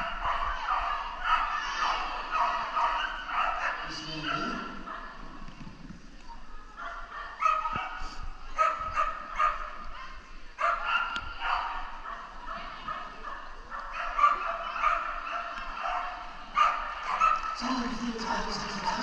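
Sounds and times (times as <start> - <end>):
dog barking: 0.0 - 5.2, 6.8 - 9.9, 10.6 - 17.6.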